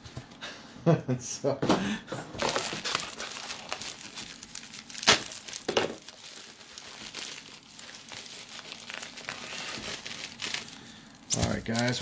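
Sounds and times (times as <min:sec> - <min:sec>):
packing material crinkling: 0:02.4 - 0:12.0.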